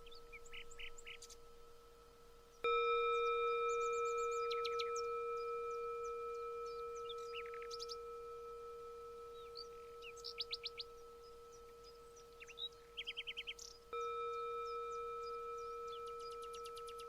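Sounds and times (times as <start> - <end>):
songbirds chirping: 0.0 - 17.0
steady ringing tone: 0.0 - 17.0.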